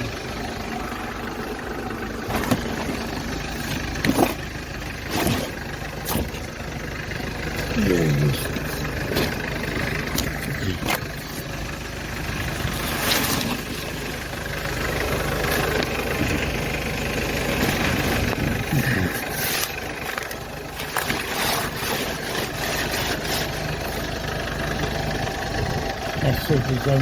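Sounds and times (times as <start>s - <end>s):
van engine idling: 0.0s - 27.0s.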